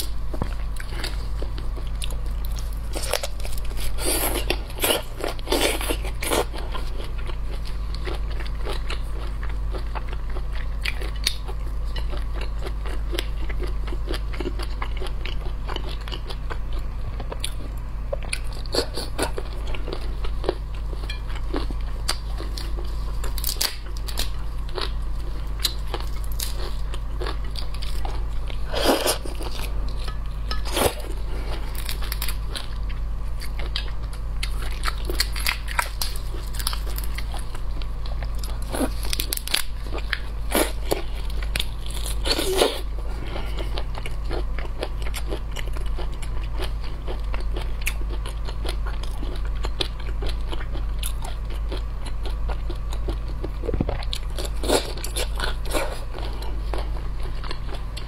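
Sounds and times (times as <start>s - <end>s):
crunching into shrimp shell: 0.0s - 58.0s
steady low hum: 0.0s - 58.0s
wet chewing: 0.0s - 58.0s.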